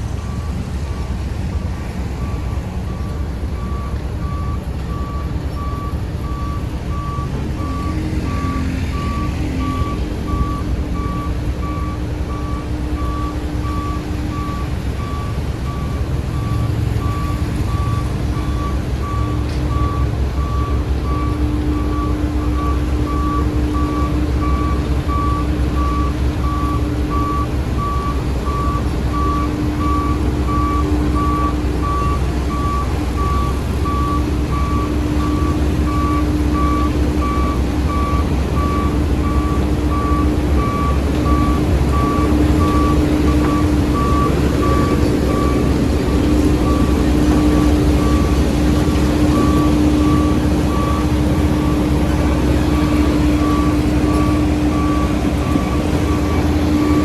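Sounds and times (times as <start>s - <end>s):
diesel engine running: 0.0s - 57.0s
reversing alarm beeping: 0.2s - 57.0s.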